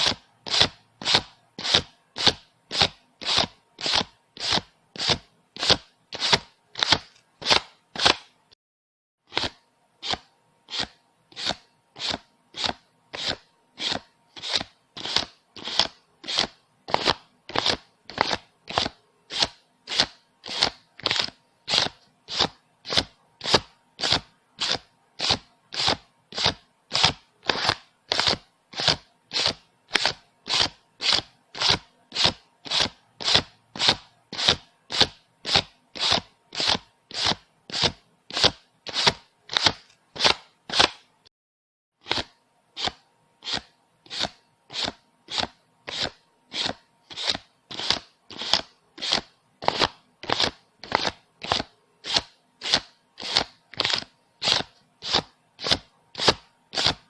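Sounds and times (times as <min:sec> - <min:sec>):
banknotes being counted: 0:00.0 - 0:08.3, 0:09.3 - 0:41.1, 0:42.0 - 0:57.0.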